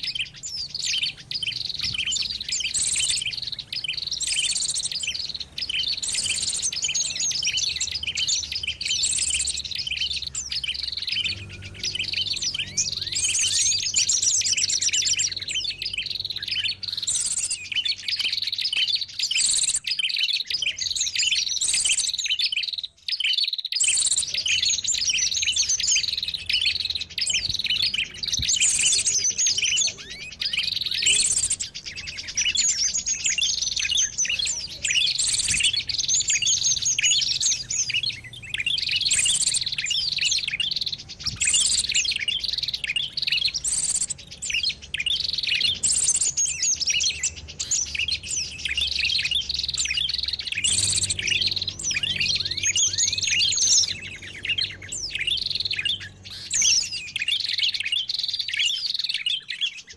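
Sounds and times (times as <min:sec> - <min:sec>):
songbirds chirping and twittering: 0:00.0 - 0:59.9.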